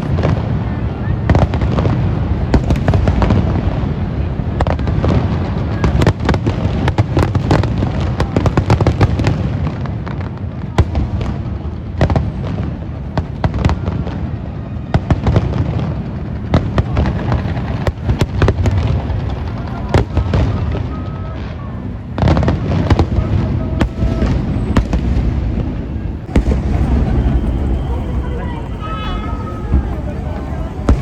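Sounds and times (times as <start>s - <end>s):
firework bursts rumbling: 0.0s - 31.0s
firework crackles and pops: 0.0s - 31.0s.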